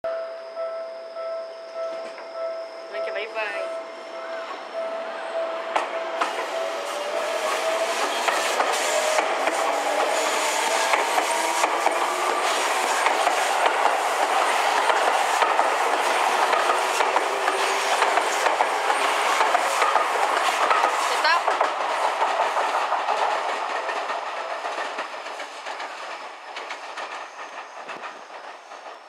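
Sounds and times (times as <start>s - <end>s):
wheels clattering on rails: 5.7s - 29.0s.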